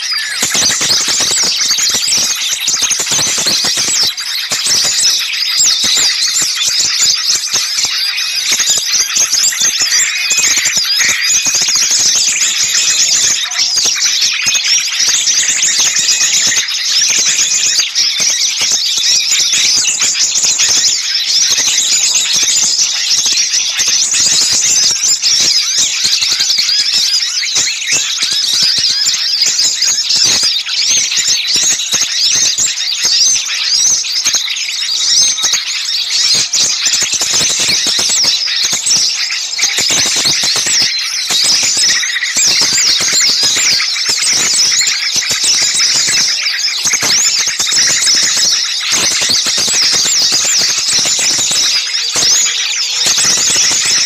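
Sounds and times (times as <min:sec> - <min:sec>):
songbirds chirping and chattering: 0:00.0 - 0:54.0.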